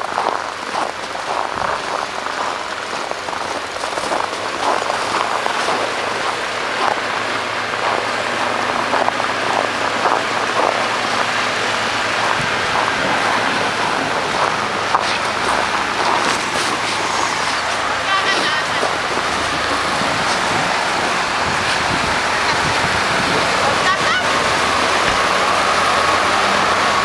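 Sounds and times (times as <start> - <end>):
footsteps crunching in deep snow: 0.0 - 26.8
blizzard wind on microphone: 0.0 - 27.0.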